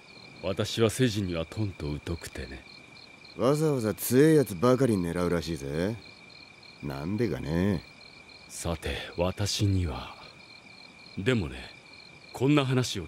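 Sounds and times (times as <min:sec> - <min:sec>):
crickets chirping: 0:00.0 - 0:13.0
men speaking: 0:00.4 - 0:02.7, 0:03.4 - 0:06.1, 0:06.8 - 0:10.4, 0:11.2 - 0:13.0.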